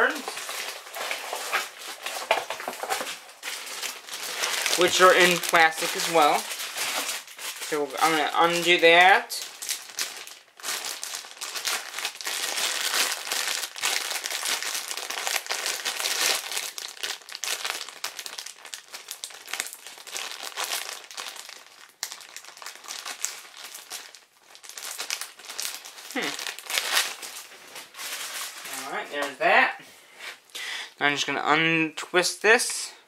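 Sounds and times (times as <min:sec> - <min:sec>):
plastic wrapping crinkling: 0:00.0 - 0:29.6.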